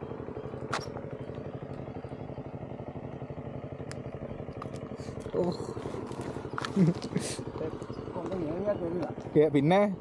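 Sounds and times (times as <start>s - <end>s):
small engine chugging: 0.0s - 10.0s.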